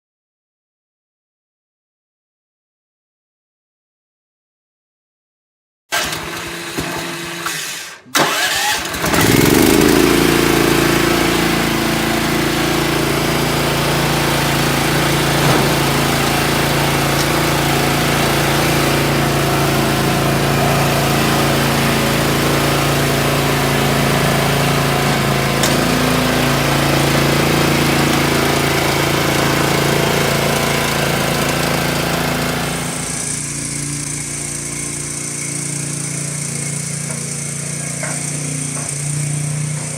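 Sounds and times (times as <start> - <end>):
stump grinder engine starting: 5.9 - 39.9.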